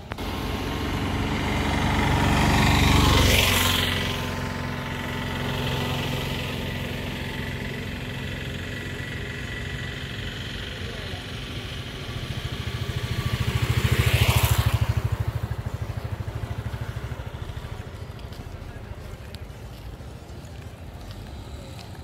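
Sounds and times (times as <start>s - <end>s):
vehicle driving past: 0.0s - 19.6s
steady engine sound: 0.0s - 22.0s.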